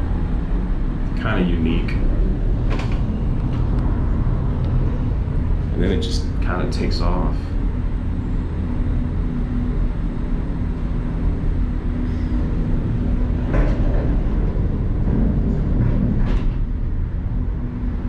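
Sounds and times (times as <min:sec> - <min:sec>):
gondola cabin rumbling: 0:00.0 - 0:18.0.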